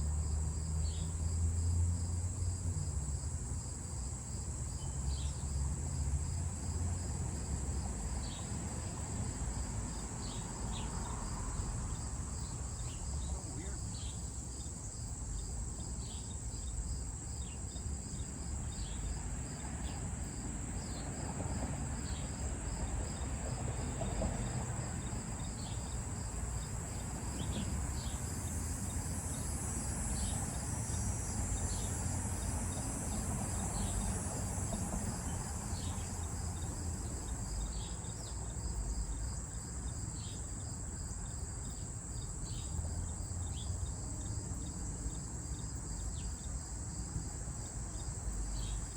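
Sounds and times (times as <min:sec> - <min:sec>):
crickets trilling: 0:00.0 - 0:48.9.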